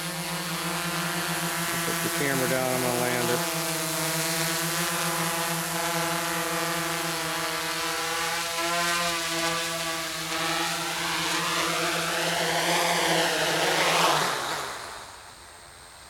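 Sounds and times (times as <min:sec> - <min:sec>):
quadcopter buzzing whir: 0:00.0 - 0:15.8.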